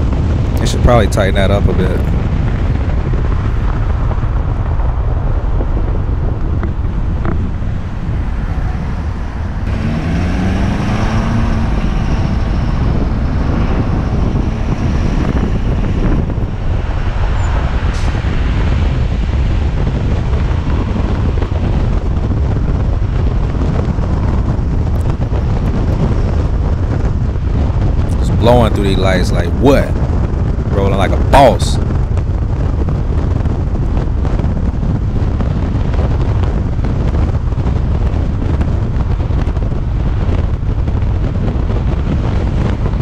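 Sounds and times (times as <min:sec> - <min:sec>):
pickup engine and road rumble: 0:00.0 - 0:43.0
wind noise: 0:00.0 - 0:43.0.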